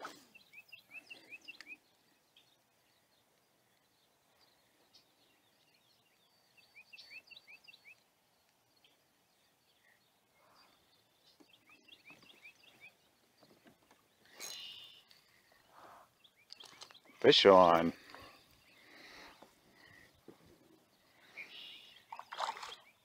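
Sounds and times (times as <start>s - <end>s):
faint bird chirps: 0.0s - 17.3s, 17.9s - 23.0s.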